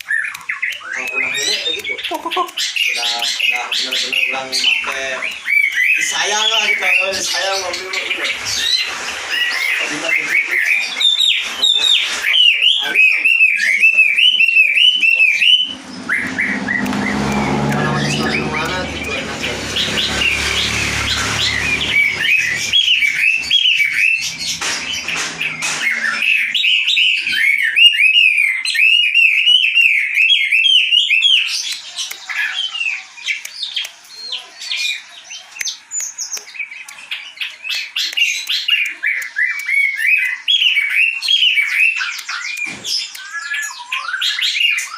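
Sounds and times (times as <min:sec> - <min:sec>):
bird chirping song: 0:00.0 - 0:44.9.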